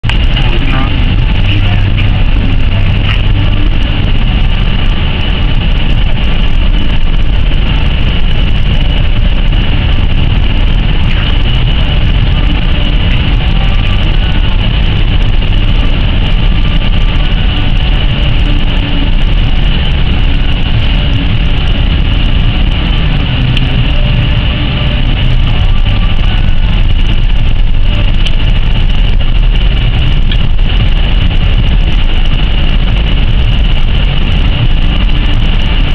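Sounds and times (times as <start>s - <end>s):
road noise: 0.0s - 35.9s
wind rumble: 0.0s - 35.9s.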